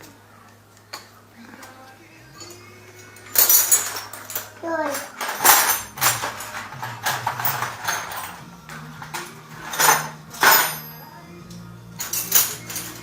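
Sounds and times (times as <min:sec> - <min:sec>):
metal tools clanking: 0:00.9 - 0:13.0.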